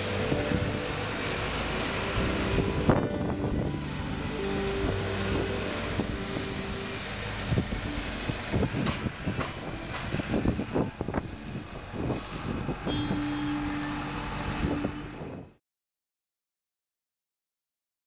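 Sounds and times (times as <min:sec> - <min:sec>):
diesel truck running: 0:00.0 - 0:15.6.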